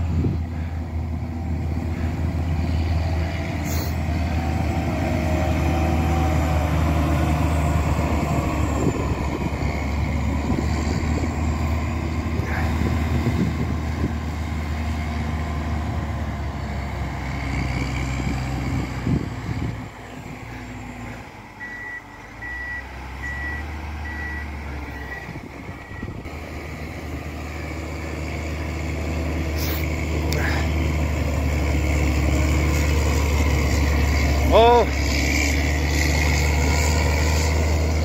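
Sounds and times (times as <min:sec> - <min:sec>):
diesel engine under load: 0:00.0 - 0:38.0.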